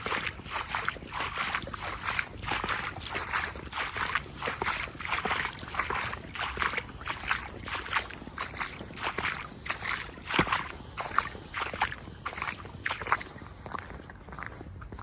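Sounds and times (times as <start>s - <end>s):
footsteps splashing through water: 0.0s - 15.0s.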